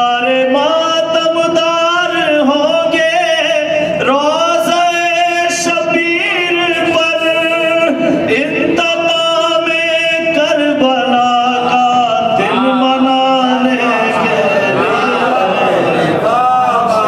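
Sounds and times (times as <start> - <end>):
man chanting poetry into microphone: 0.0 - 17.0.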